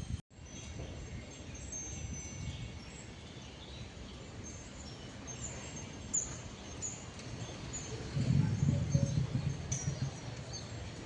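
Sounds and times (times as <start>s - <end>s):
small birds chirping: 0.4s - 11.0s.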